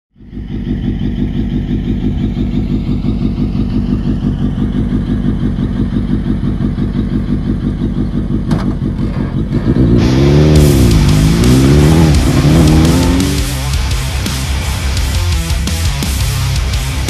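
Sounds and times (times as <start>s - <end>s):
buggy engine idling: 0.2s - 17.0s.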